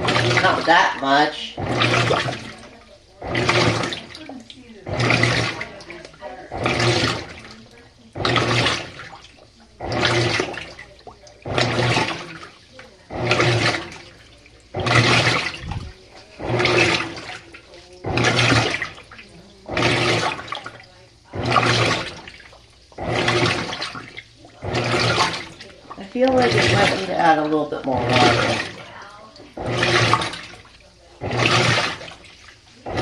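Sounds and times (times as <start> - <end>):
washing machine motor hum: 0.0 - 33.0
water swishing in washing machine: 0.0 - 33.0.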